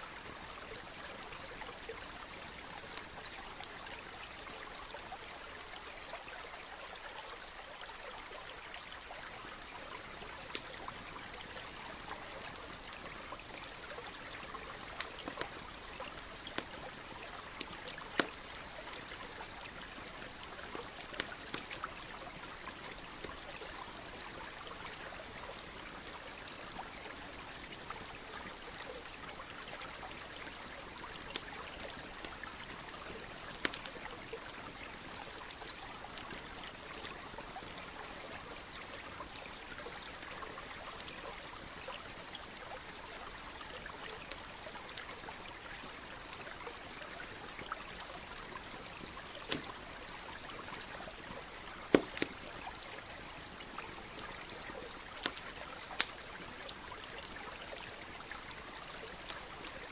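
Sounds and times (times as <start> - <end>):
campfire crackling and popping: 0.0 - 6.9, 8.0 - 59.9
stream trickling: 0.0 - 59.9.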